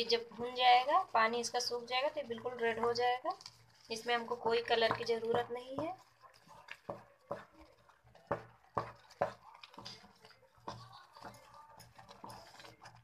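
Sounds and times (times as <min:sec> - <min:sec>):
spoon scraping and knocking pan: 0:00.0 - 0:13.0.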